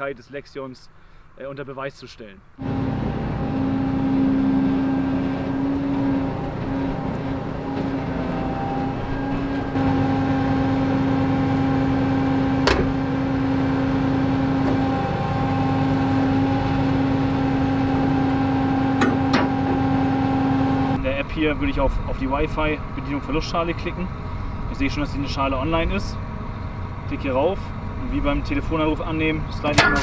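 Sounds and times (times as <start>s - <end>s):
combine harvester droning: 2.6s - 30.0s.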